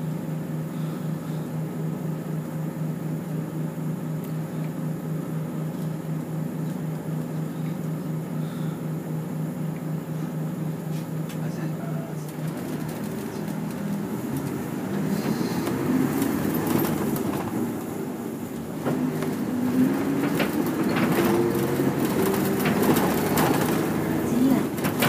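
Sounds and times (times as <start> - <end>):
bus engine whining: 0.0 - 25.0.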